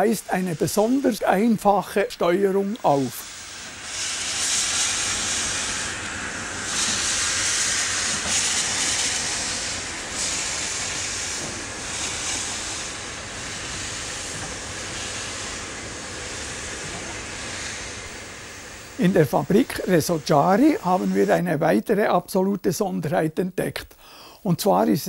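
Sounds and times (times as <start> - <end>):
steam locomotive moving off: 0.0 - 21.6
steam hissing in surges: 0.0 - 22.2.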